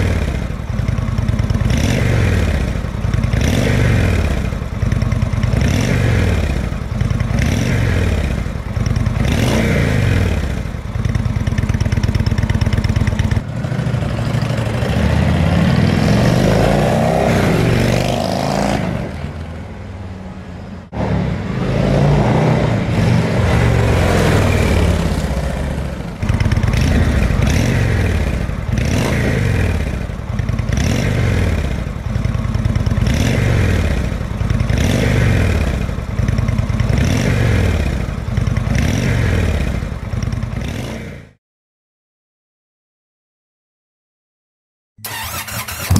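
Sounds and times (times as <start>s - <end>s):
motorcycle engine revving: 0.0s - 19.5s, 20.9s - 41.4s, 45.0s - 45.9s.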